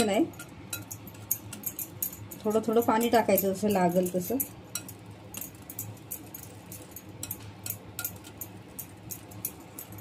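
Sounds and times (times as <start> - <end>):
whisk beating batter in glass bowl: 0.0 - 10.0.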